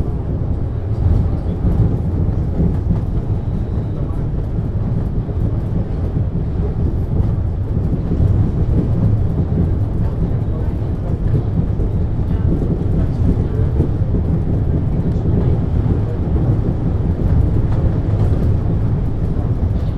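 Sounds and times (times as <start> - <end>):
suspension railway car rumbling: 0.0 - 19.9.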